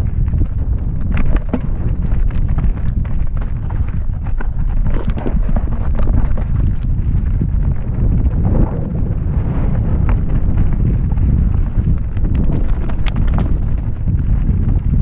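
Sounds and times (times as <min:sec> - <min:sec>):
bike rattling and clicking: 0:00.0 - 0:15.0
tyres crunching over stones: 0:00.0 - 0:15.0
wind rumble on microphone: 0:00.0 - 0:15.0.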